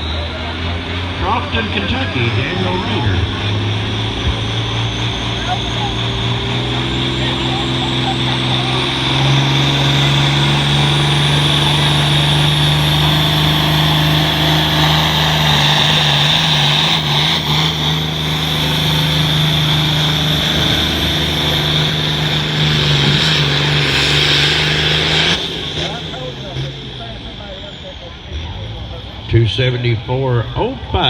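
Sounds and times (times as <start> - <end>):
diesel tractor running hard: 0.0 - 31.0.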